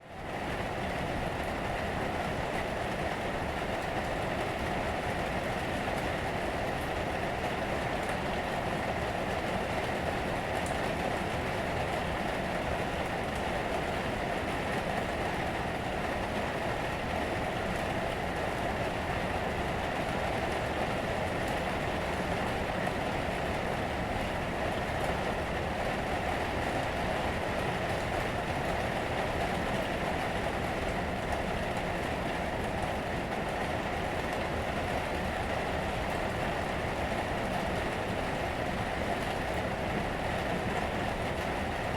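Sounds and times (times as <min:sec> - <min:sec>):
rain on a roof: 0:00.0 - 0:41.9.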